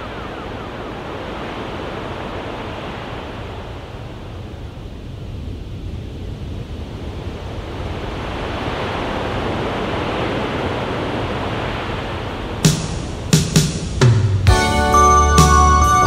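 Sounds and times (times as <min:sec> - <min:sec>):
surf-like rushing noise: 0:00.0 - 0:14.4.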